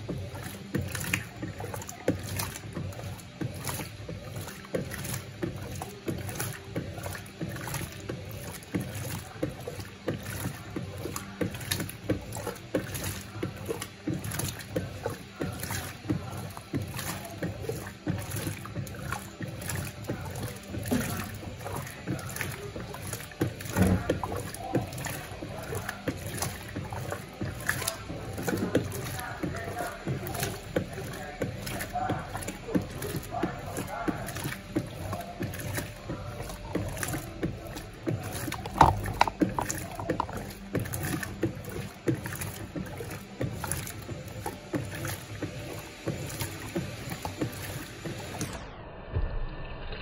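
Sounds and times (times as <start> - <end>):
low motor hum: 0.0 - 50.0
washing machine churning and sloshing: 0.0 - 50.0.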